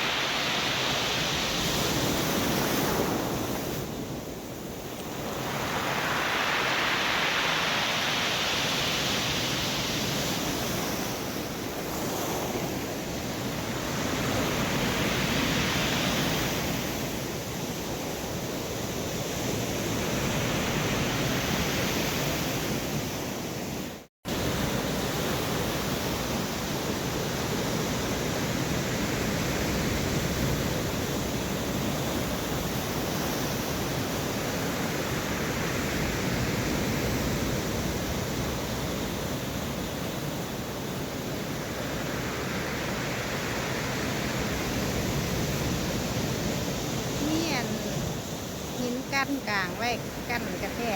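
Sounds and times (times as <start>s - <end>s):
surf breaking on shore: 0.0s - 18.4s, 19.4s - 50.9s
strong wind: 0.0s - 50.9s.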